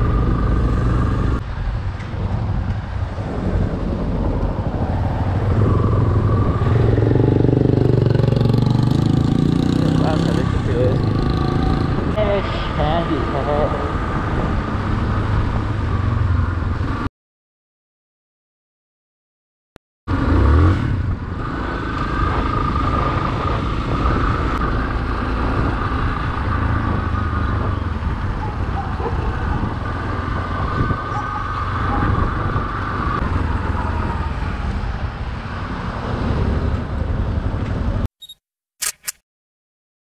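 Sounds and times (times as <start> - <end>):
wind rushing over microphone: 0.0 - 17.1, 20.1 - 38.1.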